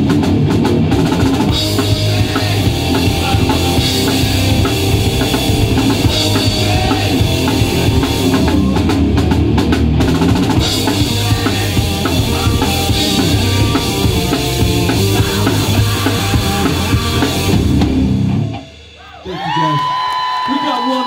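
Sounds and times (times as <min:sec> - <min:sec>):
distorted electric guitar: 0:00.0 - 0:19.0
live metal band playing: 0:00.0 - 0:19.0
pounding drum kit: 0:00.0 - 0:20.1.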